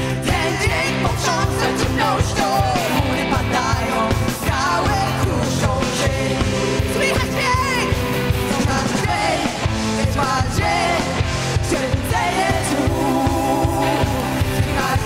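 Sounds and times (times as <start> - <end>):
electric guitar: 0.0 - 15.0
keyboard: 0.0 - 15.0
women singing: 0.0 - 15.0.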